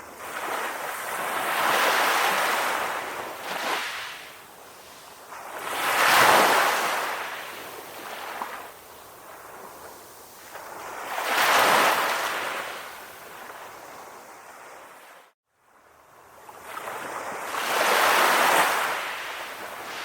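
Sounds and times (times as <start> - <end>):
ocean waves washing onto shore: 0.0 - 20.0.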